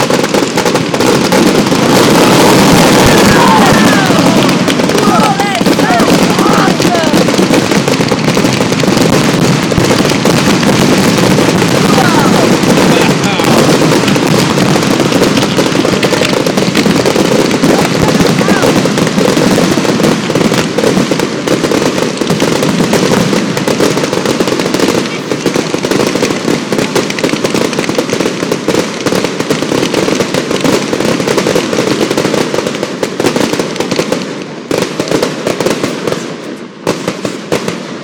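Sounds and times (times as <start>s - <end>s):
fireworks bangs and crackle: 0.0s - 38.0s.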